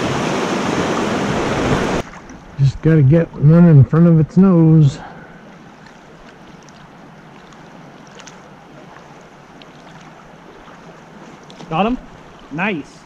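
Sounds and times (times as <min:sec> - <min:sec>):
river current rushing: 0:00.0 - 0:02.8, 0:04.4 - 0:13.0.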